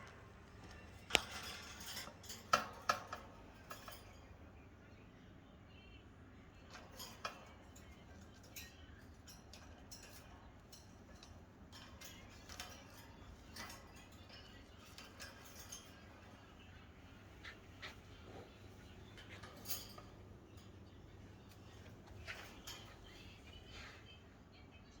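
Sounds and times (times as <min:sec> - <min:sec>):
faint clicks and scratches: 0:00.0 - 0:04.4, 0:06.6 - 0:24.3.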